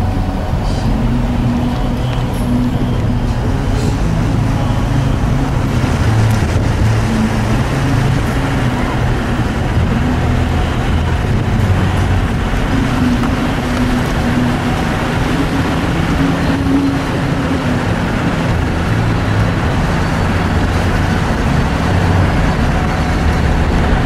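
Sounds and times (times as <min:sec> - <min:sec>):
car engine hum: 0:00.0 - 0:24.0
road noise rush: 0:00.0 - 0:24.0.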